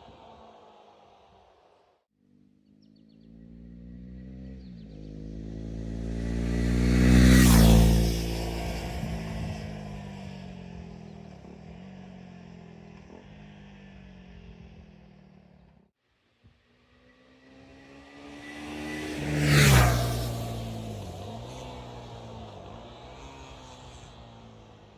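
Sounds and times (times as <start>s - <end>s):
motorcycle passing by: 2.2s - 15.8s, 16.7s - 24.9s.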